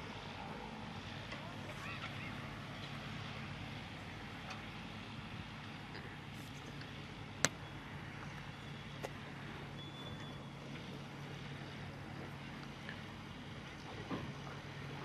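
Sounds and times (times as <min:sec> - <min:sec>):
aircraft engine humming: 0:00.0 - 0:15.0.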